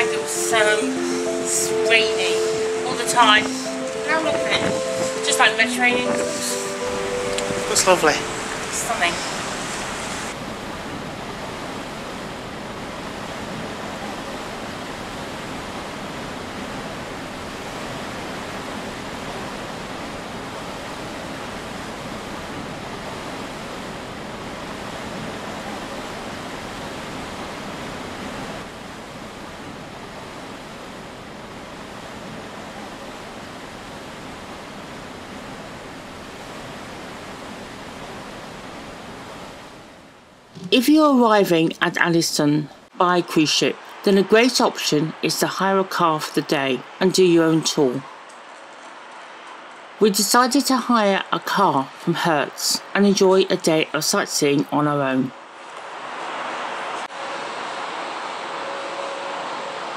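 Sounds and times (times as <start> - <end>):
wind and sea rushing: 0.0 - 54.3, 55.0 - 59.9.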